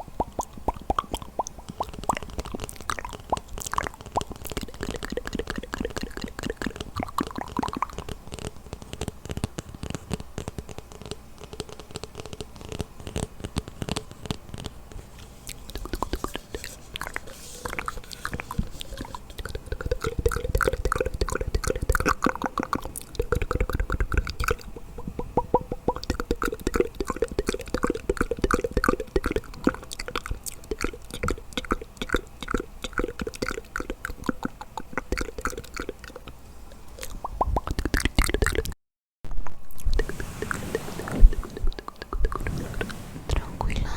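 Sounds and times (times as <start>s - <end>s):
wet mouth clicks and smacks: 0.0s - 14.8s, 15.5s - 38.8s.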